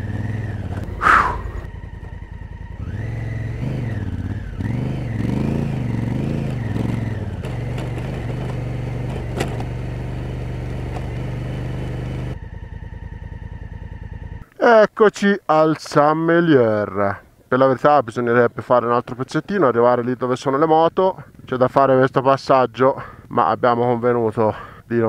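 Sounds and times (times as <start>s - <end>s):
motorcycle engine running: 0.0s - 14.6s, 18.5s - 24.9s.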